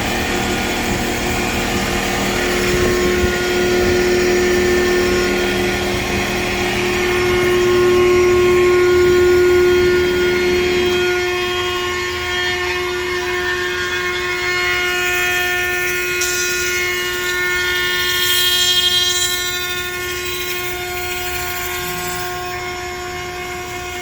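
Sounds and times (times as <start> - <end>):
machine humming with whine: 0.0 - 24.0.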